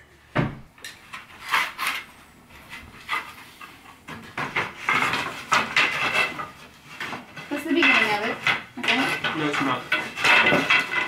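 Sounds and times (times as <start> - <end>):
wooden slats knocking and scraping: 0.4 - 11.0.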